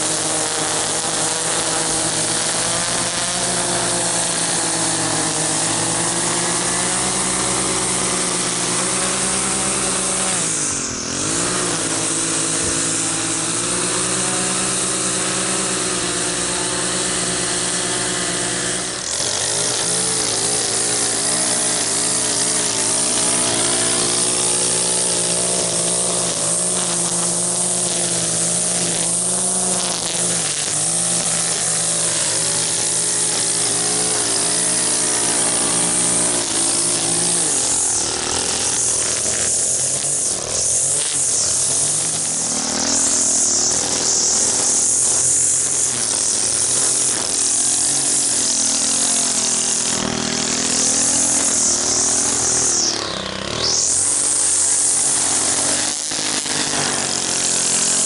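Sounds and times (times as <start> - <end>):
string trimmer engine running: 0.0 - 58.0.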